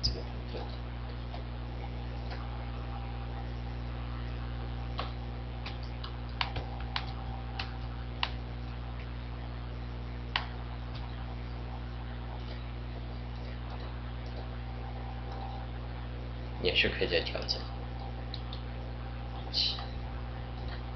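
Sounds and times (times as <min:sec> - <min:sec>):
steady electrical hum: 0:00.0 - 0:20.9.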